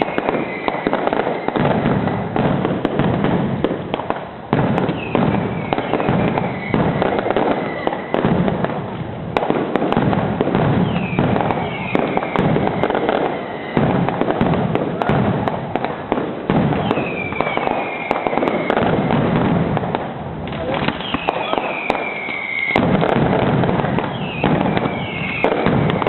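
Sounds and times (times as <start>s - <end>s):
fireworks whistles falling in pitch: 0.0s - 15.6s, 16.5s - 26.0s
fireworks bangs and crackling: 0.0s - 26.0s.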